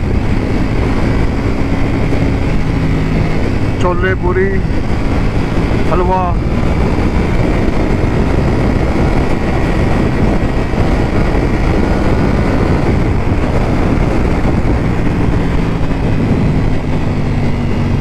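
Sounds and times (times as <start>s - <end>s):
motorcycle engine: 0.0s - 18.0s
wind and road noise: 0.0s - 18.0s.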